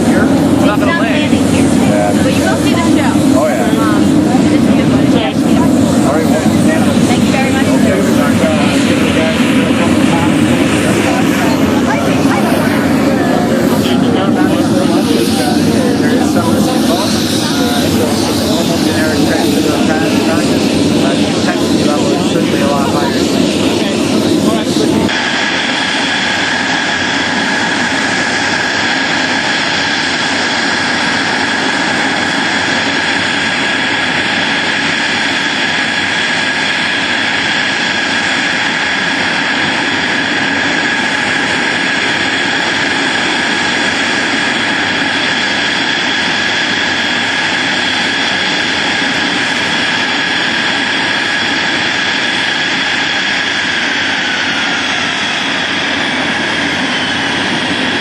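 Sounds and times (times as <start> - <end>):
aircraft turbine engine whining: 0.0 - 58.0.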